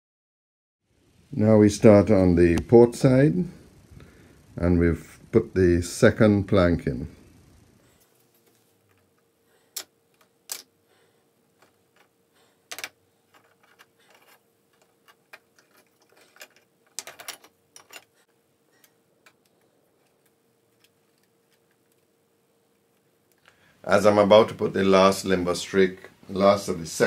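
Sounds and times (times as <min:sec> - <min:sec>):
faint steady hum: 0:00.8 - 0:27.0.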